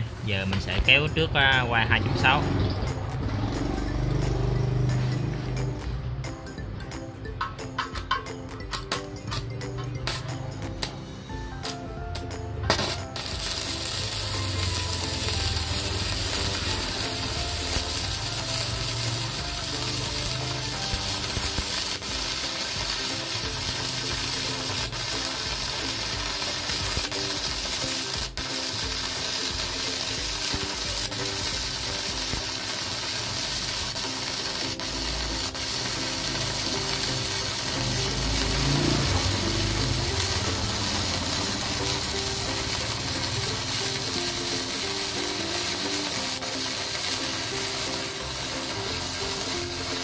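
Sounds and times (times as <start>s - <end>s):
welding arc crackling and hissing: 0.3s - 4.0s, 8.7s - 50.0s.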